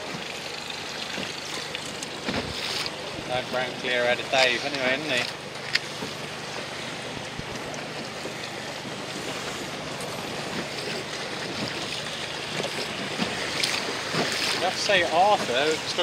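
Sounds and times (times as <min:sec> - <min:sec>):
seawater splashing around boat: 0:00.0 - 0:16.0
wind: 0:00.0 - 0:16.0.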